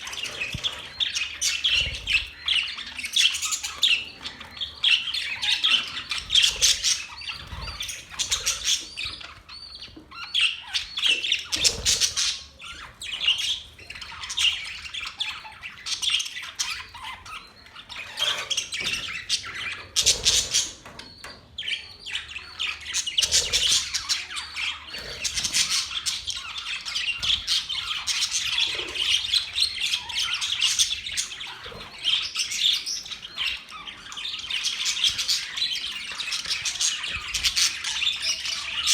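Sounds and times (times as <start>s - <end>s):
parrots chirping and squawking: 0.0s - 38.9s.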